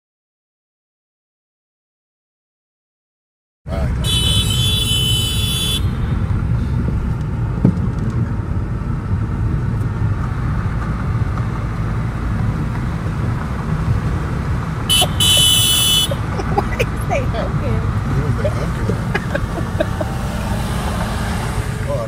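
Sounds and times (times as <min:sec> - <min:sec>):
car road noise rumble: 0:03.7 - 0:22.0.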